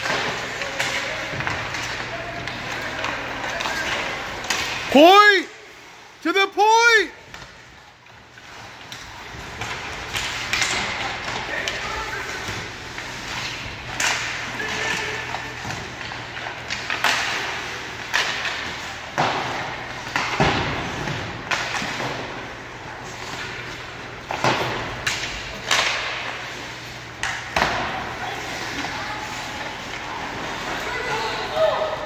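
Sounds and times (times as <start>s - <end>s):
puck and sticks striking boards: 0.0s - 5.4s, 7.2s - 32.0s
arena background hum: 0.0s - 32.0s.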